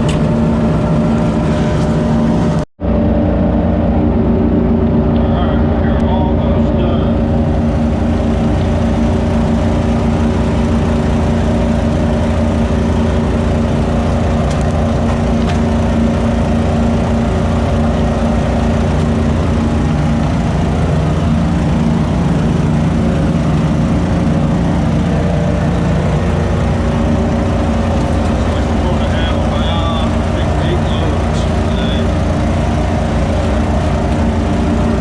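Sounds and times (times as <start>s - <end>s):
vacuum rig engine running: 0.0s - 35.0s.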